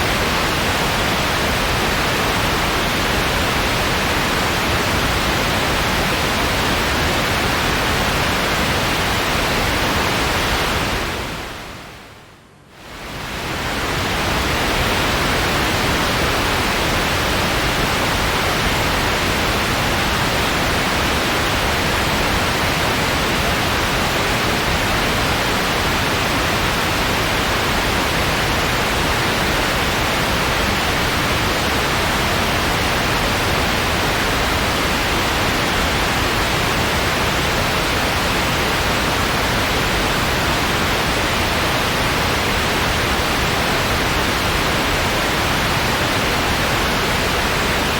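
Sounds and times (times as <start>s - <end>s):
white noise hiss: 0.0s - 47.9s.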